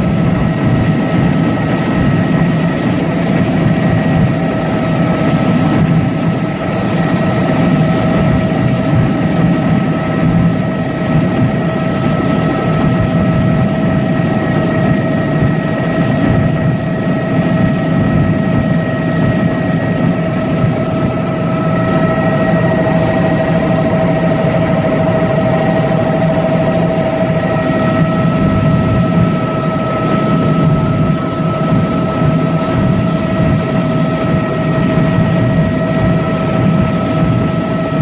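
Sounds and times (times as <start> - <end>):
helicopter engine and rotor noise: 0.0 - 38.0
high whine: 0.0 - 38.0.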